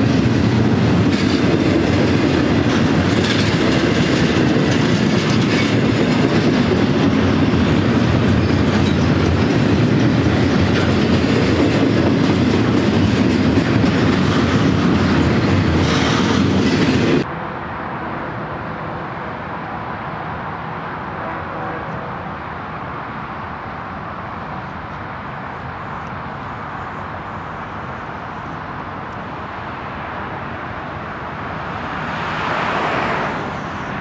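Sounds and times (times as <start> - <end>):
distant train rumble: 0.0 - 34.0
freight train rumbling past: 0.0 - 34.0.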